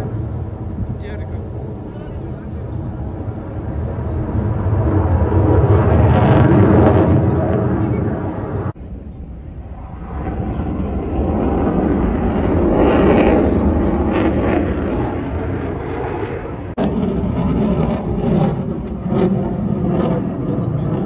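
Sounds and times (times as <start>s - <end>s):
helicopter flying past: 0.0s - 21.0s.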